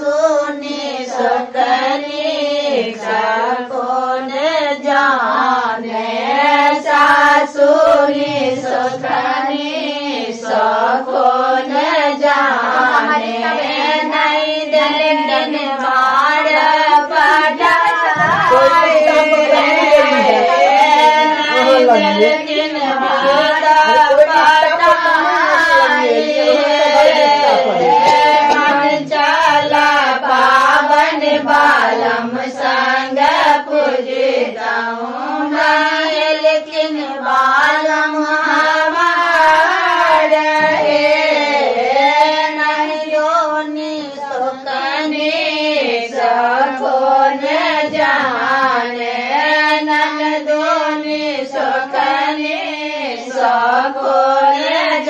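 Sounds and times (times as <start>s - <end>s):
women singing together: 0.0s - 55.0s.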